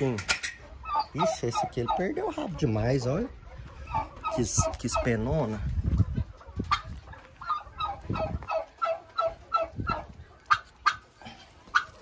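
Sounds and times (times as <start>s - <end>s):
poultry calling: 0.0s - 12.0s.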